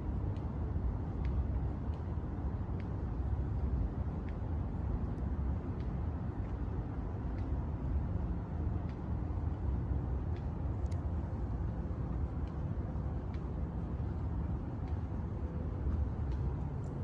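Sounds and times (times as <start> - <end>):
city ambience rumble: 0.0 - 17.0
faint light ticks: 0.0 - 17.0.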